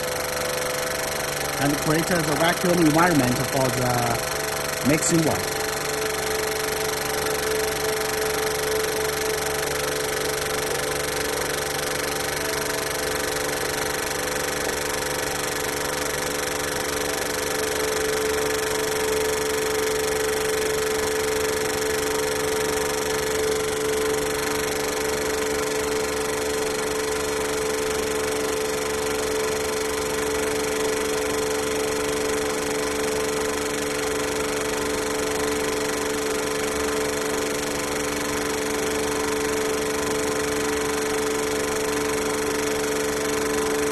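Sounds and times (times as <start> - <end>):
vacuum pump humming: 0.0 - 43.9.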